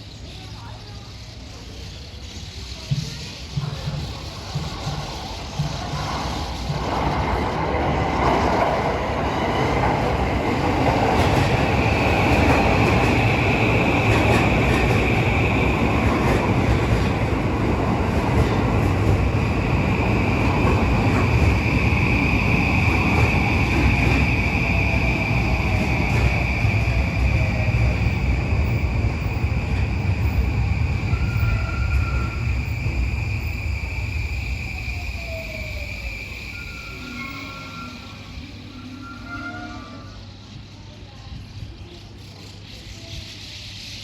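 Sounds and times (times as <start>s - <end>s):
train wheels and motors rumbling: 0.0s - 38.7s
high train whine: 0.0s - 43.7s.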